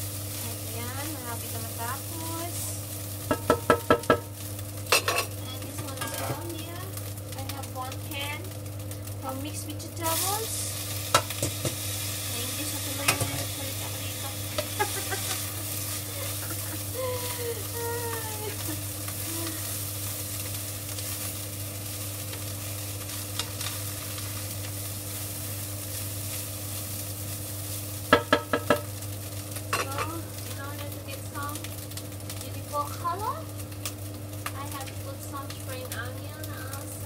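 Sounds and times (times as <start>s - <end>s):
rice sizzling in a frying pan: 0.0s - 37.0s
steady low hum: 0.0s - 37.0s.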